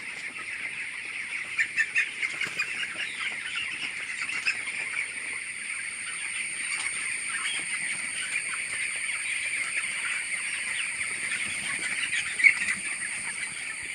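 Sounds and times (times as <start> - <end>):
chickens calling: 0.0 - 13.9.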